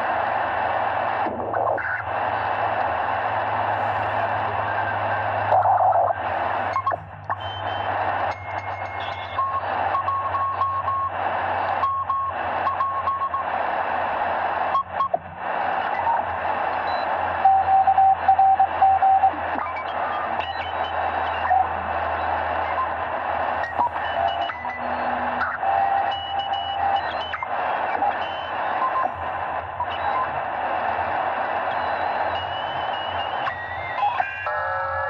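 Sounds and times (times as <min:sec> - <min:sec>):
radio band noise hiss: 0:00.0 - 0:35.0.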